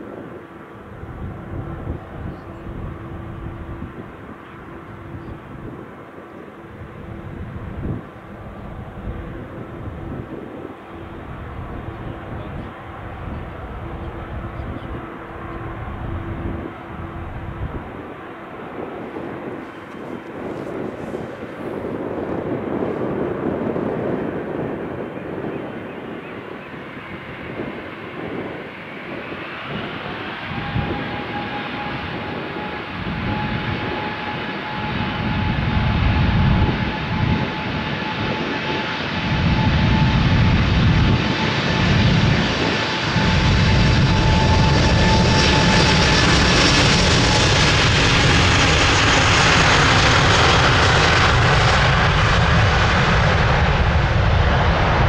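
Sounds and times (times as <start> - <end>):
deep engine rumble: 0.0 - 25.4, 27.0 - 55.0
jet engine whine: 0.0 - 55.0.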